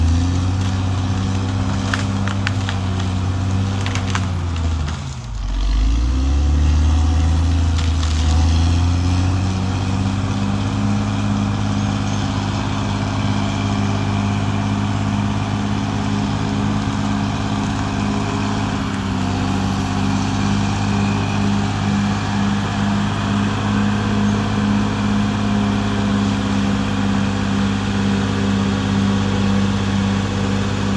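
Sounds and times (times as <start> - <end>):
bulldozer diesel engine running: 0.0 - 30.9.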